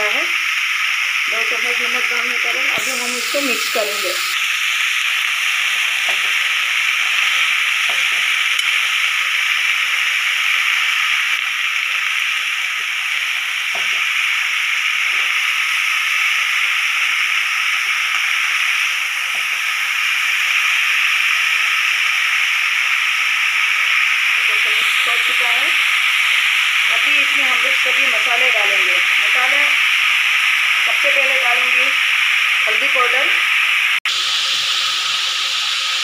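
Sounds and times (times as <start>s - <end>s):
food sizzling in oil: 0.0s - 36.0s.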